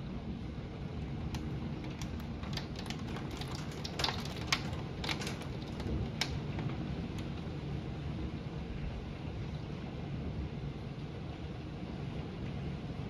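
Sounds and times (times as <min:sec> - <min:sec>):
heavy rain: 0:00.0 - 0:13.0
rain ticking on hard surface: 0:00.2 - 0:13.0.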